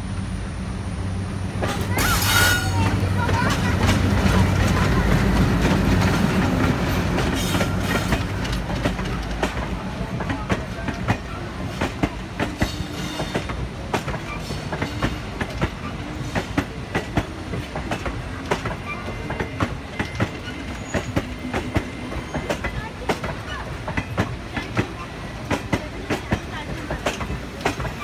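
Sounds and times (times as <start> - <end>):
low train rumble: 0.0 - 28.0
train wheels clacking over rail joints: 1.6 - 28.0.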